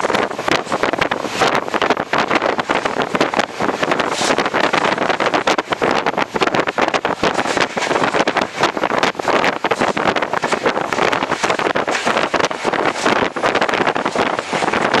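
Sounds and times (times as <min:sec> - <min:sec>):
train coach rattling and clattering: 0:00.0 - 0:15.0
wind rushing over microphone: 0:00.0 - 0:15.0.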